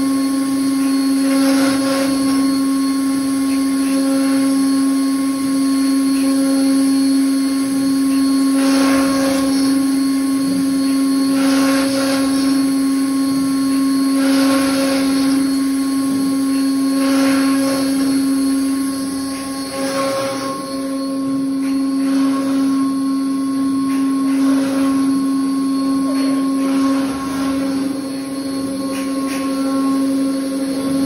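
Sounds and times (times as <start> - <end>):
router spindle whine: 0.0 - 31.0
rasping cutting noise: 0.8 - 4.8, 6.1 - 31.0.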